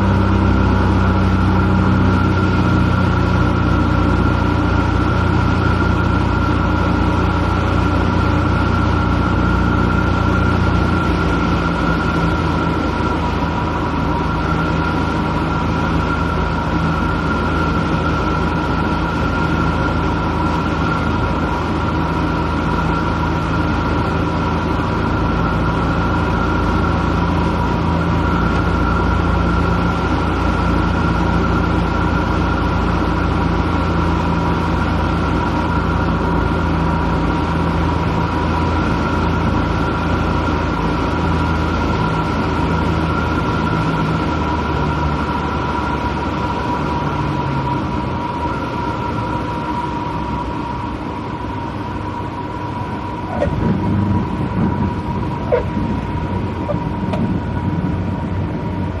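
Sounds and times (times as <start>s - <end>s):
propeller airplane engine droning: 0.0s - 59.0s.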